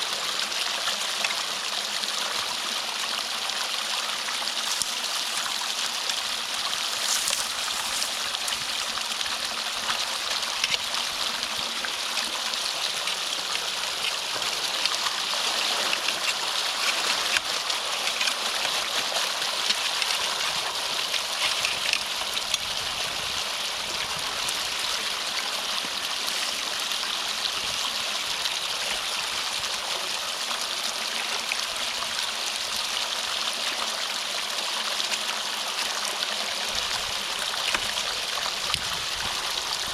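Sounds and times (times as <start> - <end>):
water rushing through culvert: 0.0 - 39.9.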